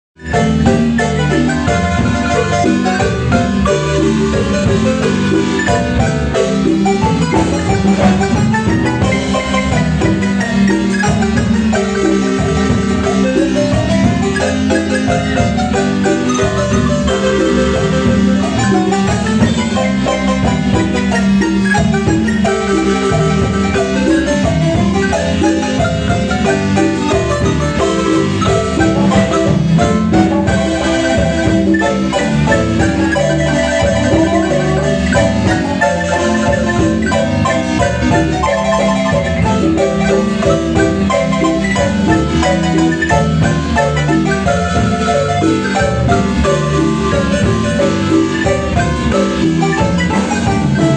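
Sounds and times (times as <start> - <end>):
low bass line: 0.2 - 50.9
marimba music: 0.2 - 50.9.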